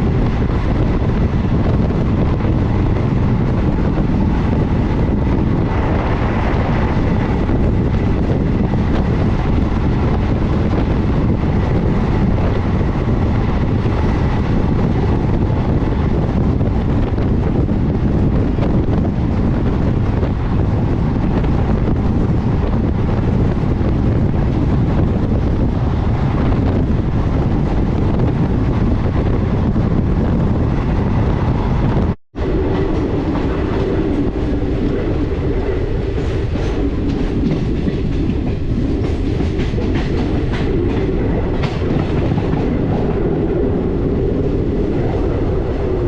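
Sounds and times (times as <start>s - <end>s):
passenger train running: 0.0s - 46.0s
wind buffeting the microphone: 0.0s - 46.0s.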